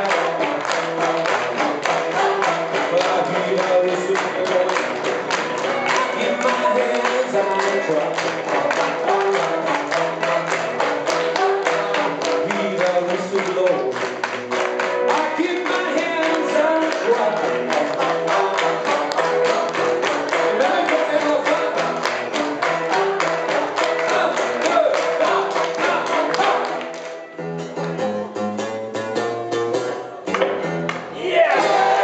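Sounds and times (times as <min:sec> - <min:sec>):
man singing: 0:00.0 - 0:05.3, 0:05.9 - 0:26.9
live country band music: 0:00.0 - 0:32.0
fast tapping beat: 0:00.1 - 0:26.7.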